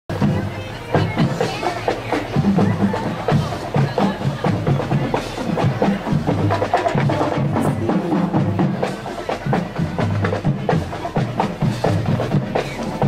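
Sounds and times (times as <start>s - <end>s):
marching drumline playing: 0.1s - 13.0s.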